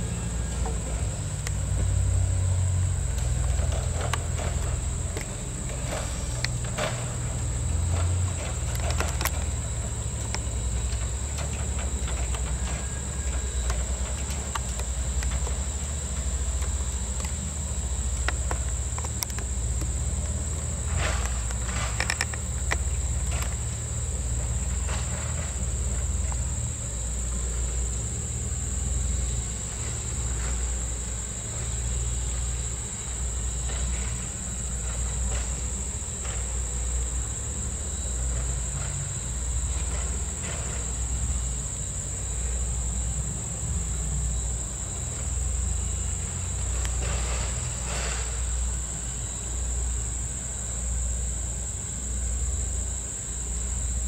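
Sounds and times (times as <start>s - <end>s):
high insect chorus: 0.0s - 54.0s.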